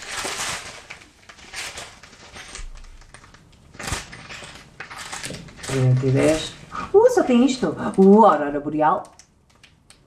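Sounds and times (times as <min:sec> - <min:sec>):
plastic zip bags crinkling: 0:00.0 - 0:10.0.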